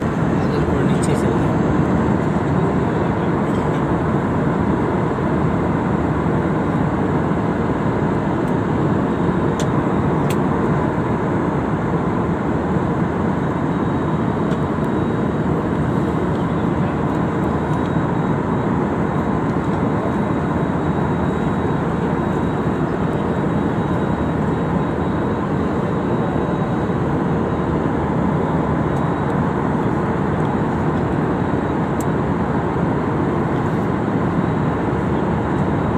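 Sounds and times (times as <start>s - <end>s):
airliner cabin engine and air noise: 0.0s - 35.9s.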